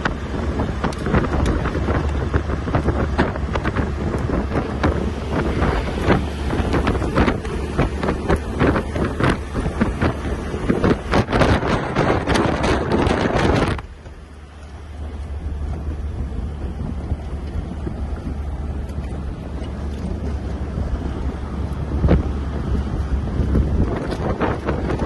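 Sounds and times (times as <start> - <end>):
diesel engine rumble: 0.0 - 25.0
wind buffeting microphone: 0.0 - 25.0.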